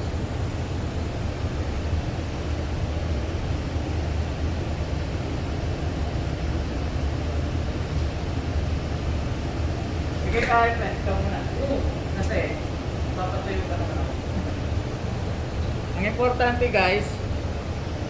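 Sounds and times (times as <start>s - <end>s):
machinery hum and hiss: 0.0s - 18.0s.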